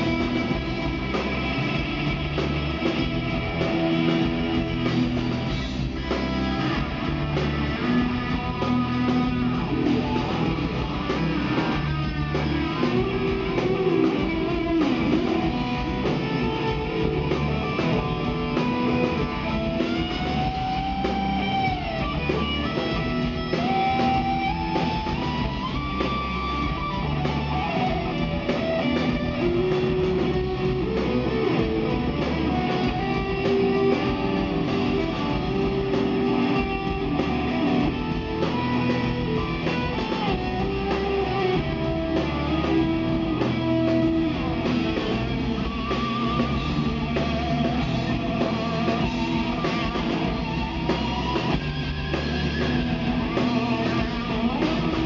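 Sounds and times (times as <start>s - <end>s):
bending lead guitar notes: 0.0s - 55.0s
rock band playing: 0.0s - 55.0s.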